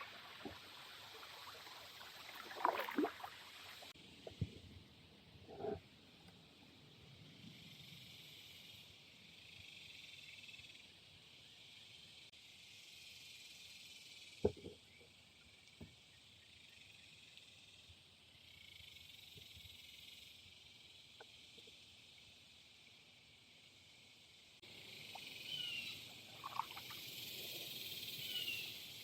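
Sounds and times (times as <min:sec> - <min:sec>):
faint insect chirring: 0:05.5 - 0:29.0.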